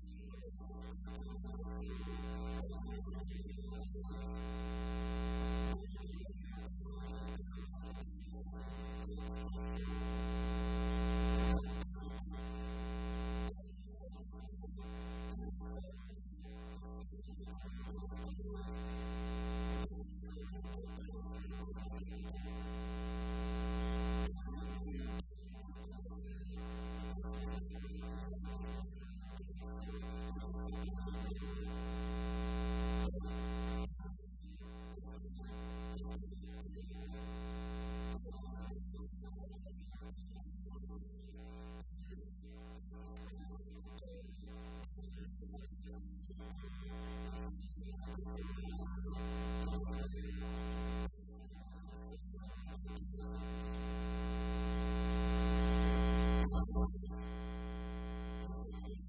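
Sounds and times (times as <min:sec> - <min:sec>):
electrical mains hum: 0:00.0 - 0:51.5, 0:52.1 - 0:59.0.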